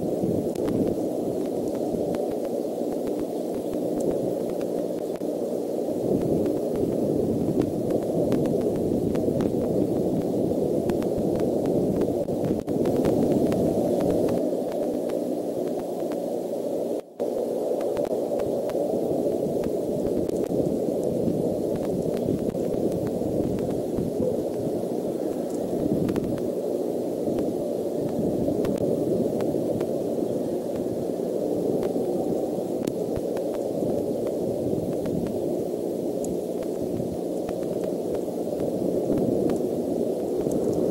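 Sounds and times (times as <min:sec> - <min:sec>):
static-like hiss: 0:00.0 - 0:40.9.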